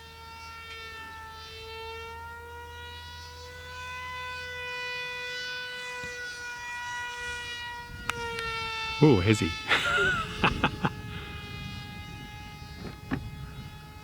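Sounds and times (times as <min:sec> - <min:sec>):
model aircraft motor whine: 0:00.0 - 0:14.0.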